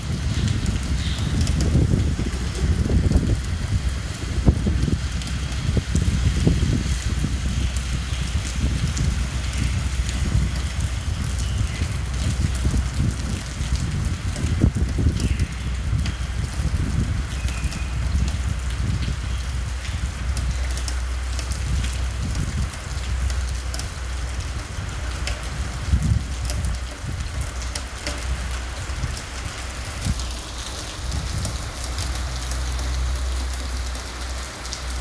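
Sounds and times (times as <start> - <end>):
low wind rumble: 0.0 - 35.0
rain drops ticking on a surface: 0.0 - 35.0.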